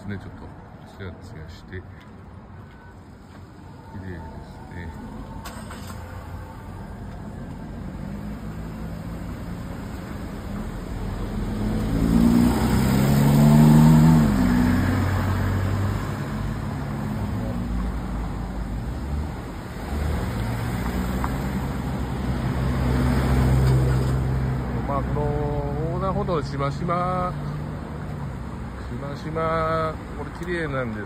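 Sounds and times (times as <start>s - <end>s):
tyres on wet road: 0.0s - 31.0s.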